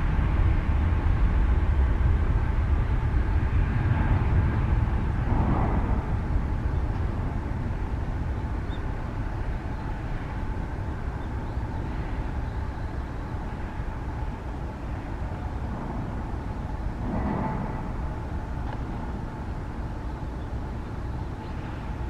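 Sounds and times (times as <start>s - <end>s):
distant jet engines rumbling: 0.0s - 22.0s
faint steady whine: 0.0s - 22.0s.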